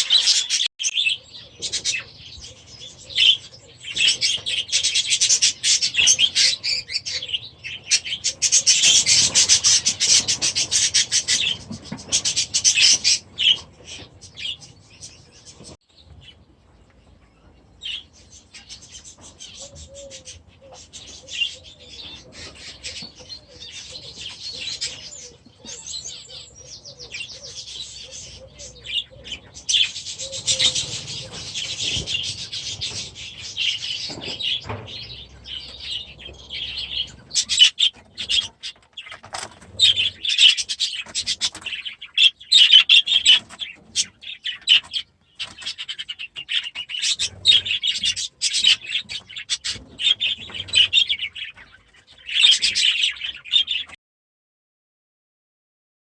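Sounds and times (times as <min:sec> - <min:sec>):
budgies chattering and chirping: 0:00.0 - 0:54.0.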